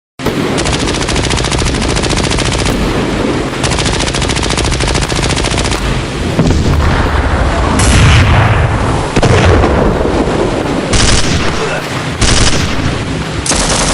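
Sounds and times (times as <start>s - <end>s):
machine-gun fire: 0.2s - 10.3s, 10.9s - 13.9s
low rumble of battle: 0.2s - 13.9s.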